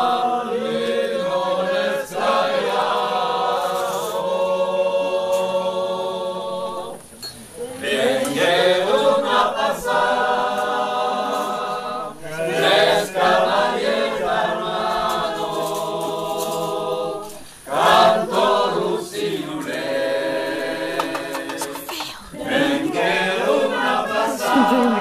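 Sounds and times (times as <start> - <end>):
group singing unaccompanied: 0.0 - 25.0.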